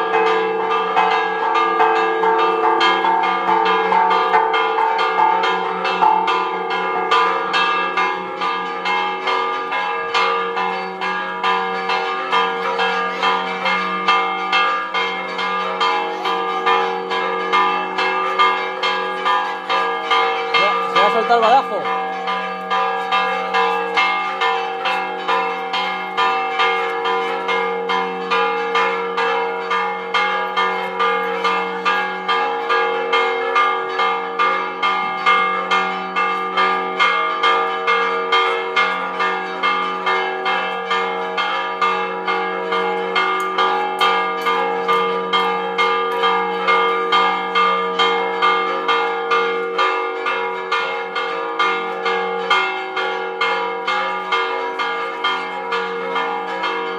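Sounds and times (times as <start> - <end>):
church bells pealing: 0.0 - 56.9.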